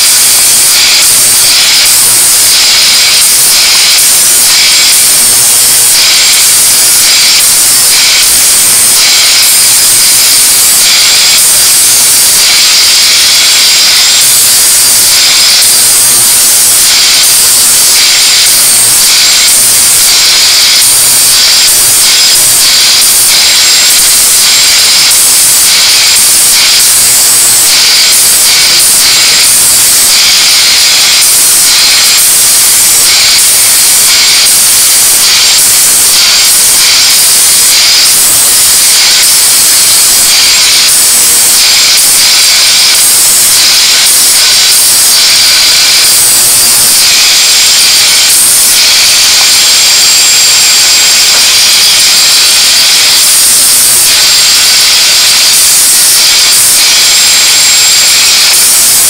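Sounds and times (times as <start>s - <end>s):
angle grinder grinding: 0.0s - 59.0s.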